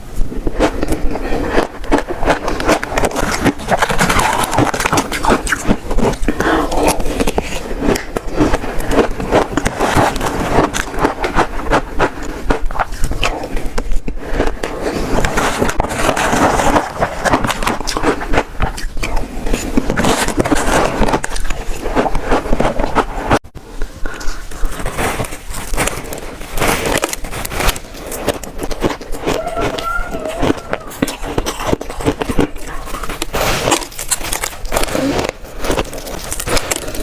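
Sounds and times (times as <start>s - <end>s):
ice being chewed: 0.0s - 37.0s.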